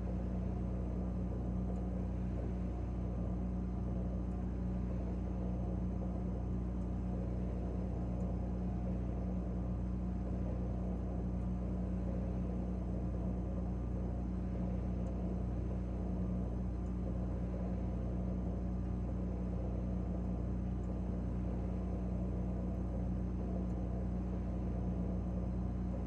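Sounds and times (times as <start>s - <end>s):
refrigerator humming: 0.0s - 26.0s.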